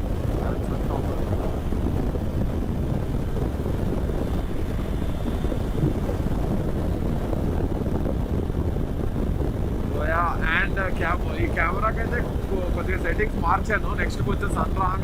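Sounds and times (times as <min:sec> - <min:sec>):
motorcycle engine: 0:00.0 - 0:13.9
road noise: 0:00.0 - 0:15.0
wind rushing on microphone: 0:00.0 - 0:15.0.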